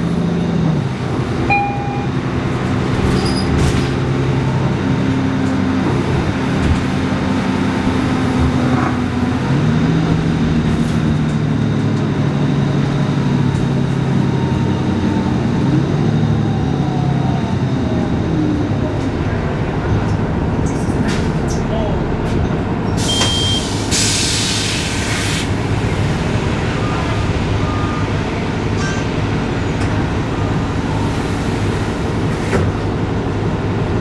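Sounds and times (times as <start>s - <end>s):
bus diesel engine drone: 0.0s - 34.0s
tyre and road noise: 0.0s - 34.0s.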